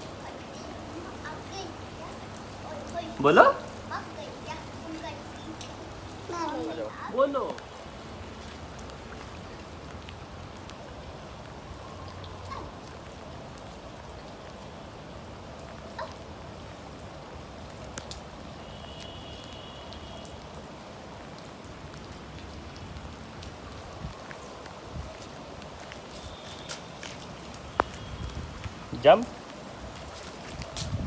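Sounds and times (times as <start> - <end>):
rain pattering on hard surfaces: 0.0 - 31.0.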